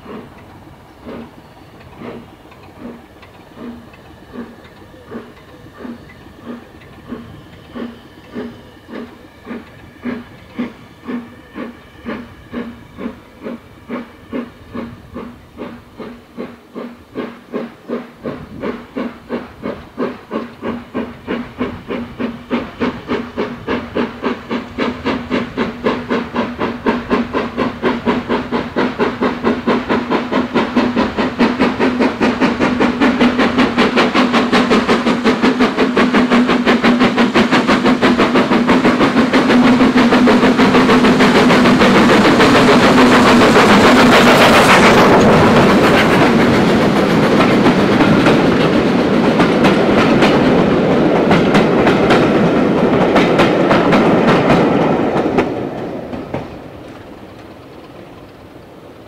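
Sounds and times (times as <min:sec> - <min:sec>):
steam locomotive exhaust chuffs: 0:00.0 - 0:59.0.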